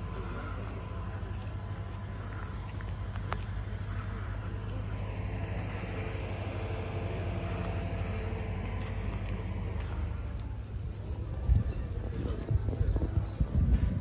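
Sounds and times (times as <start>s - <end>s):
faint engine-like hum: 0.0s - 14.0s
steady low rumble: 0.0s - 14.0s.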